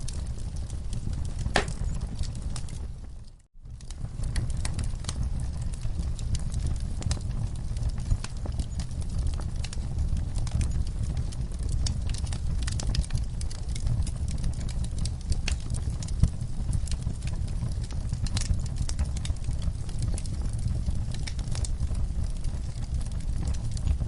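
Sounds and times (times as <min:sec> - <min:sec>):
fire crackling in fireplace: 0:00.0 - 0:24.0.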